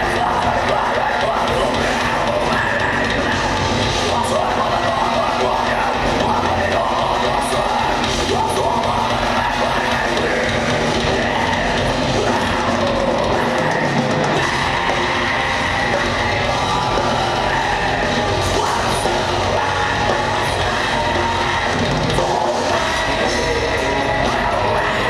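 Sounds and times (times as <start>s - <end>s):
bass: 0.0s - 25.0s
drum kit: 0.0s - 25.0s
electric guitar: 0.0s - 25.0s.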